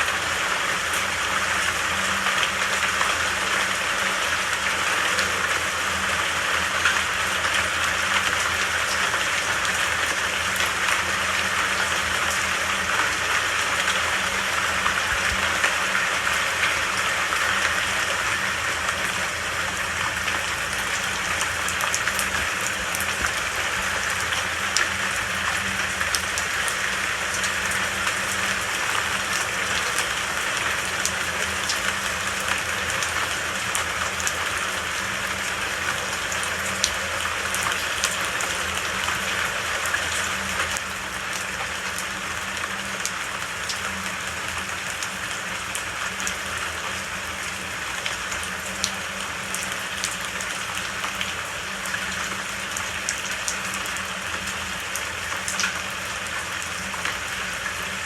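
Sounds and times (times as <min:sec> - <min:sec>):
steady rain hiss: 0:00.0 - 0:58.0
raindrops ticking: 0:00.4 - 0:57.1.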